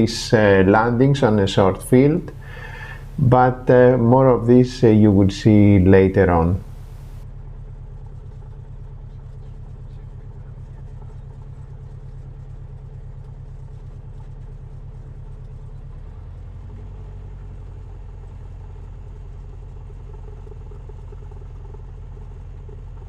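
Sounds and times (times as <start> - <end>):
light aircraft engine droning: 0.0 - 23.0.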